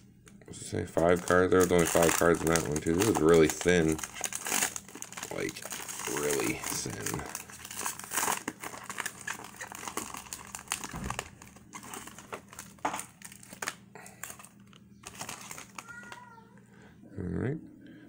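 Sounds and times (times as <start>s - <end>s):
foil wrapper crinkling: 1.0s - 16.3s.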